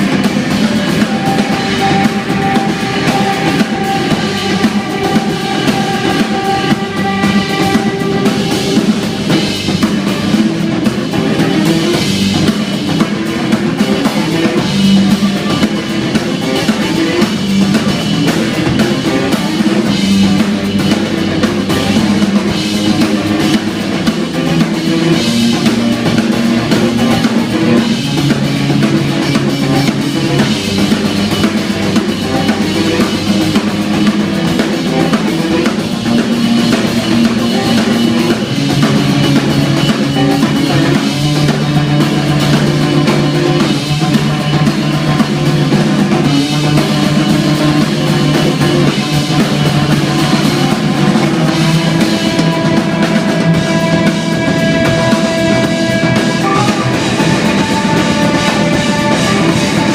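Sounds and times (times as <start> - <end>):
bass notes: 0.0 - 59.9
drum kit playing: 0.0 - 59.9.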